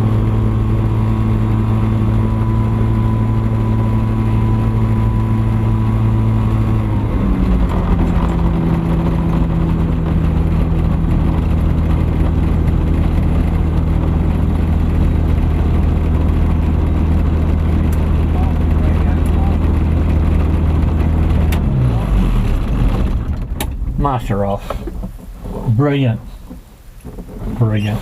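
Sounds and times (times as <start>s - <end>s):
ultralight aircraft engine: 0.0s - 28.0s.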